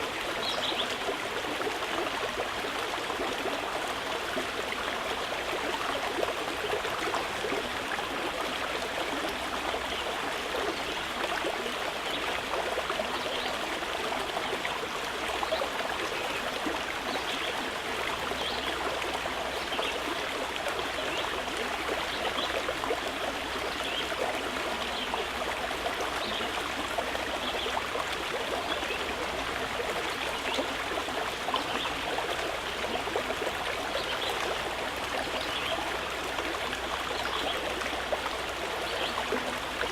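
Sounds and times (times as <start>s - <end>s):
running water flowing: 0.0s - 39.9s.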